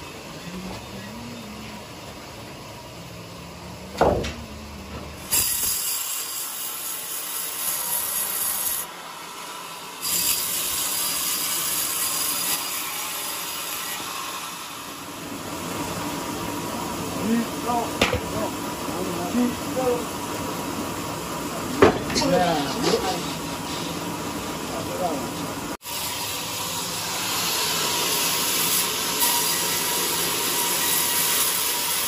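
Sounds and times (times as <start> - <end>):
band saw cutting log: 4.0 - 32.0.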